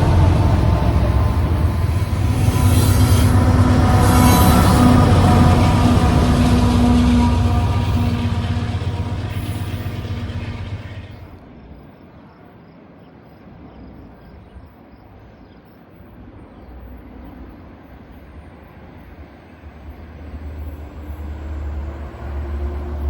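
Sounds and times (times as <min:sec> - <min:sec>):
train passing: 0:00.0 - 0:13.7, 0:15.9 - 0:23.0.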